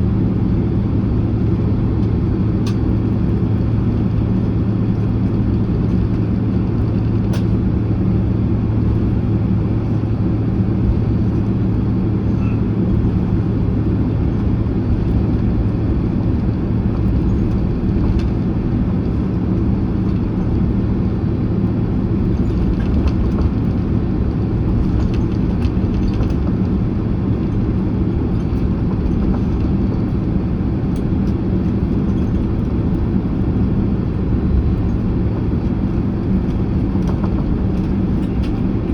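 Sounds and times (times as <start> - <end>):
aircraft cabin rumble: 0.0 - 38.9
jet engines humming: 0.0 - 38.9.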